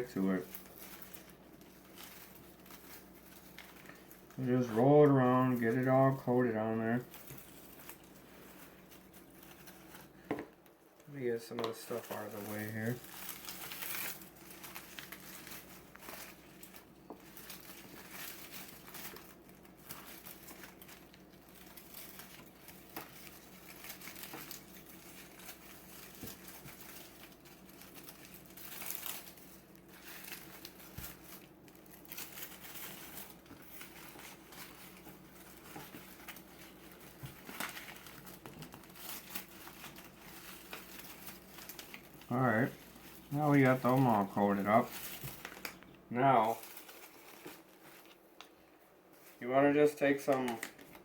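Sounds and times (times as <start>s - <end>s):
faint crinkling and rustling: 0.0s - 51.0s.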